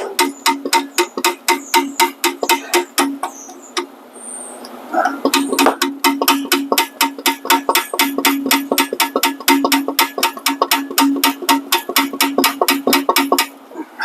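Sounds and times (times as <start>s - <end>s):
steady low hum: 0.0s - 14.0s
ratchet wrench clicking: 0.2s - 3.9s, 5.2s - 13.6s.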